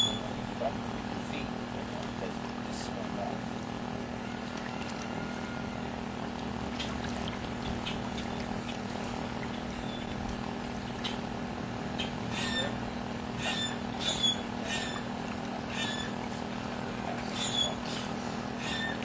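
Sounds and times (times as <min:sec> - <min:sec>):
legs wading through water: 0:00.0 - 0:19.0
steady low hum: 0:00.0 - 0:19.0.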